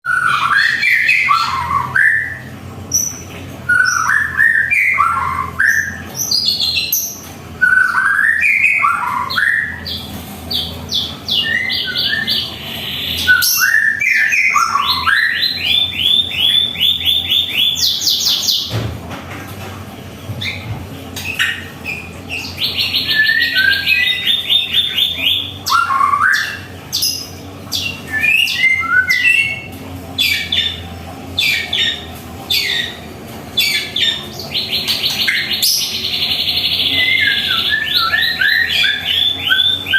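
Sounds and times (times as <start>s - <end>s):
bird singing whistled phrases: 0.1s - 10.0s, 10.6s - 18.7s, 21.3s - 30.8s, 33.6s - 39.9s.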